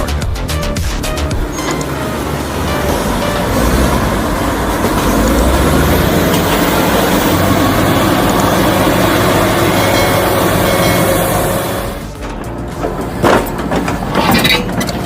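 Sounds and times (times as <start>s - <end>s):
heavy diesel engine rumbling: 0.0s - 15.0s.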